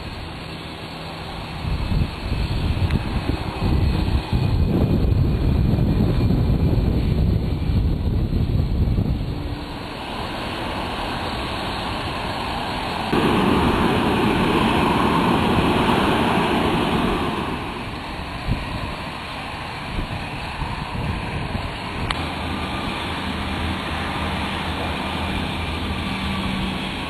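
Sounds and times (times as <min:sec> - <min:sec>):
hissing jet roar: 0:00.0 - 0:27.0
jet engine rumble: 0:00.0 - 0:27.0.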